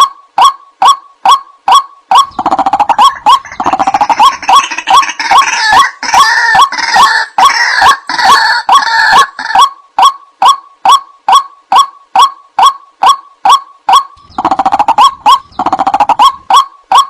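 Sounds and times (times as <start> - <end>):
bird croaking harshly: 0.0 - 17.0
bird kwak calls: 0.0 - 17.0.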